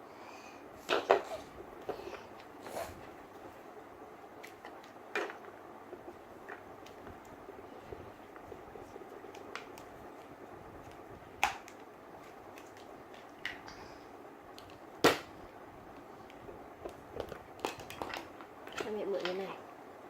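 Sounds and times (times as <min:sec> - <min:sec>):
low room noise: 0:00.0 - 0:20.0.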